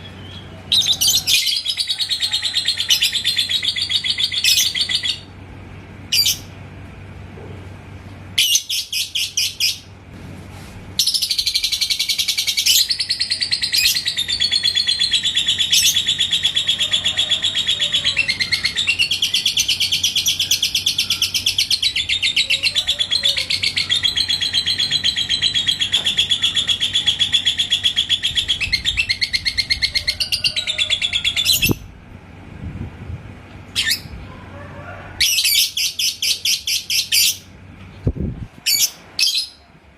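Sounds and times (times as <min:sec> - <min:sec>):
lovebird chirping and trilling: 0:00.0 - 0:05.3, 0:06.1 - 0:06.5, 0:08.4 - 0:09.9, 0:11.0 - 0:31.9, 0:33.7 - 0:34.2, 0:35.2 - 0:37.5, 0:38.6 - 0:39.6.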